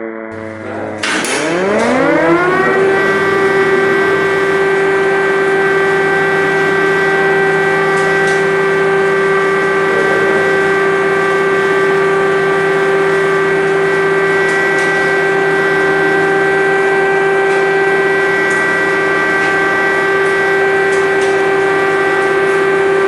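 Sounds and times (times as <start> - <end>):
air-raid siren winding up: 0.2 - 23.0.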